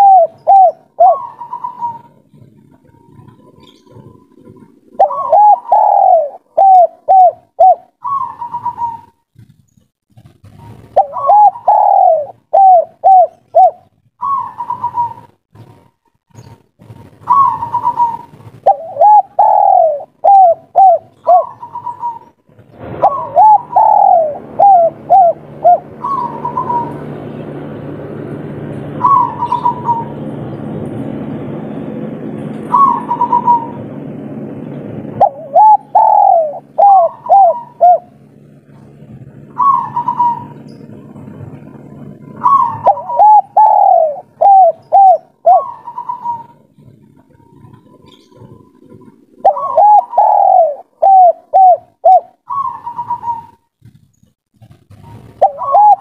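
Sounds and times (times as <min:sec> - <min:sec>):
dove cooing: 0:00.0 - 0:09.6, 0:10.4 - 0:15.8, 0:16.4 - 0:30.6, 0:31.4 - 0:54.0, 0:54.9 - 0:56.0
steady background hum: 0:00.0 - 0:56.0.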